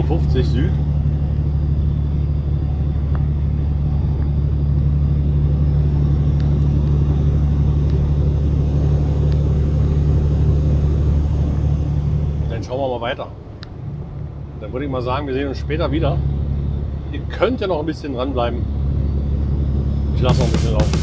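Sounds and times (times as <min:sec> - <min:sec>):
road noise inside cab: 0:00.0 - 0:21.0
truck diesel engine droning: 0:00.0 - 0:21.0.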